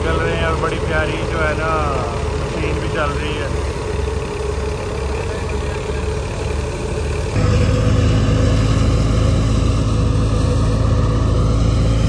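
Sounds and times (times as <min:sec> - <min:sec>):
thresher mechanical hum: 0:00.0 - 0:12.0.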